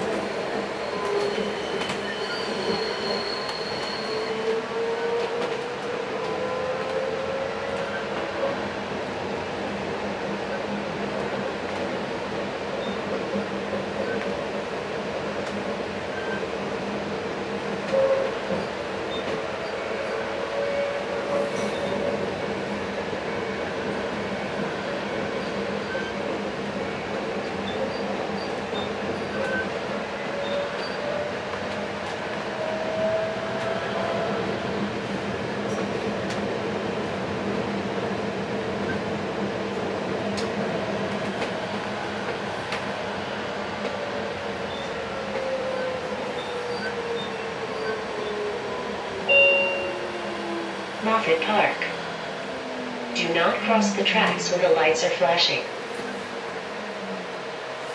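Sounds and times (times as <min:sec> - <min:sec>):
train wheels rumbling on track: 0:00.0 - 0:57.9.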